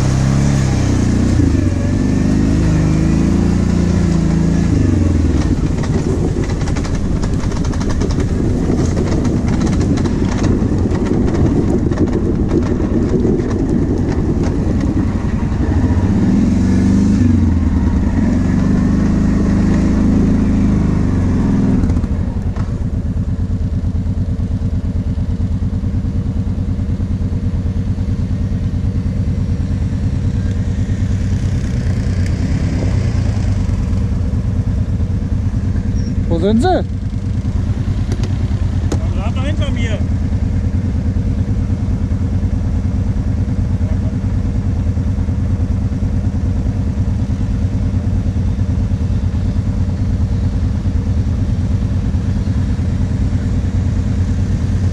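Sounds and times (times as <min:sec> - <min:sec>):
atv engine revving: 0:00.0 - 0:26.0, 0:28.4 - 0:54.9
rattles from rough track: 0:00.0 - 0:54.9.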